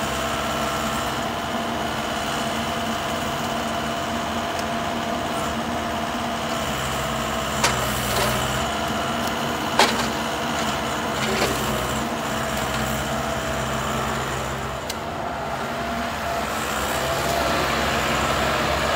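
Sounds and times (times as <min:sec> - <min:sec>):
loader engine running: 0:00.0 - 0:18.9.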